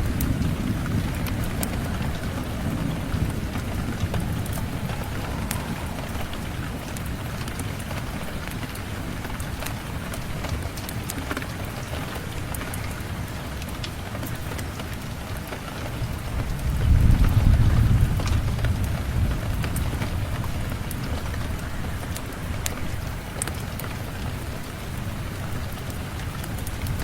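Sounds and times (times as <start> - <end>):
thunder rumbling: 0.0 - 14.7, 15.8 - 27.0
rain: 0.0 - 27.0.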